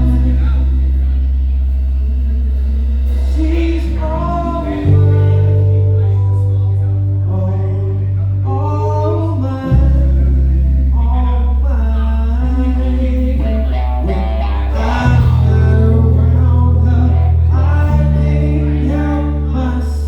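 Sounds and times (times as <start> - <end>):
bass holding low notes: 0.0 - 20.0
live band music: 0.0 - 20.0.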